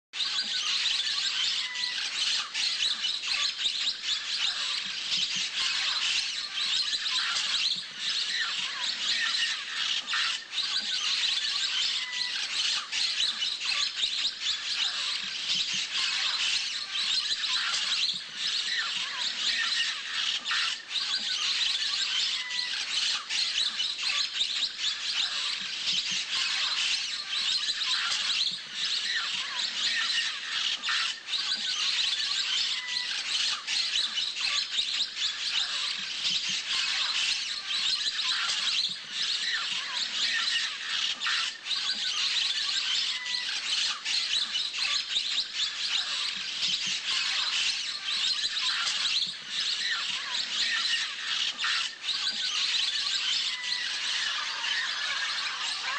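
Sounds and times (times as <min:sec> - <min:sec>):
parrots squawking and chirping: 0:00.2 - 0:55.9.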